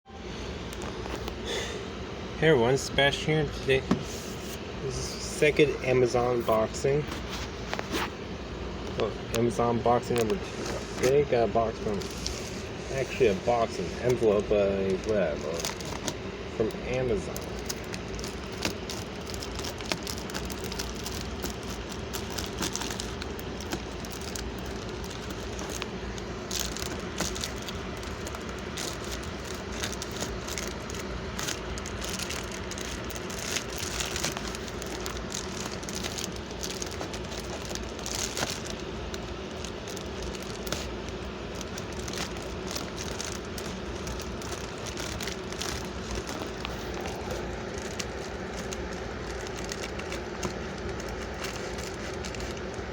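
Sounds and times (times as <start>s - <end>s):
steady background hum: 0.1s - 52.9s
envelope packaging crinkling: 9.3s - 52.9s.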